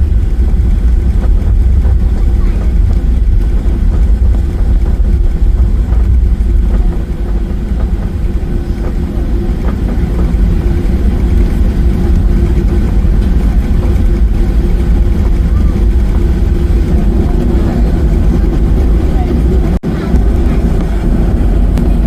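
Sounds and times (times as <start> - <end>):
jet engine rumble in cabin: 0.0 - 22.0.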